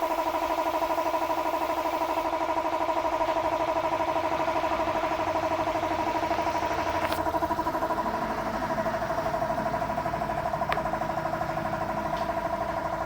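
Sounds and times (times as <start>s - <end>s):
machine running with fast pulse: 0.0s - 13.0s.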